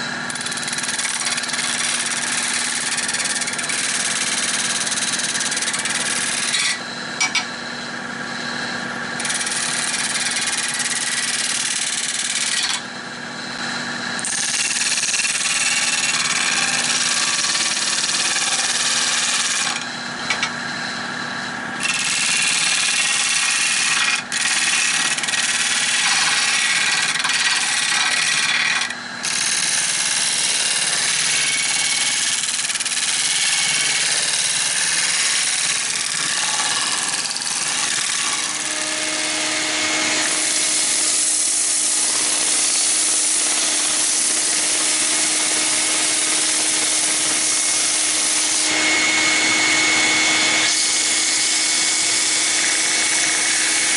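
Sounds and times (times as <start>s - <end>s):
tool scraping spinning wood: 0.0s - 53.9s
wood lathe humming: 0.0s - 53.9s.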